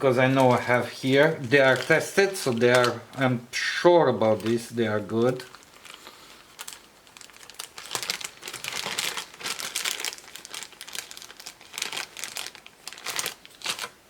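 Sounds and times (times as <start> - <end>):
plastic packaging crinkling: 0.0 - 3.4, 4.1 - 14.0.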